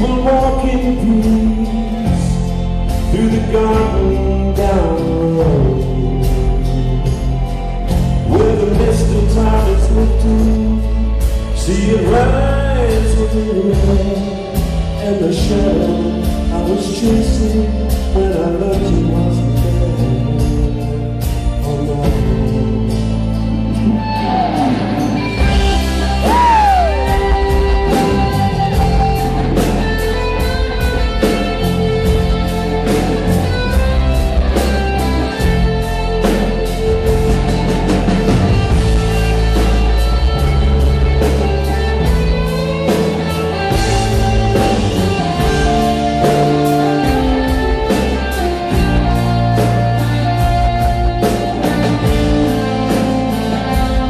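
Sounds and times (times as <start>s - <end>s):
electric guitar lead: 0.0s - 54.0s
live rock band playing: 0.0s - 54.0s.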